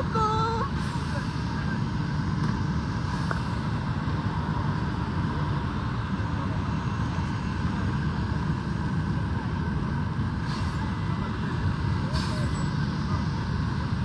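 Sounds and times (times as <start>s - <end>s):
faint jet whine: 0.0s - 14.0s
jet airliner engine noise: 0.0s - 14.0s.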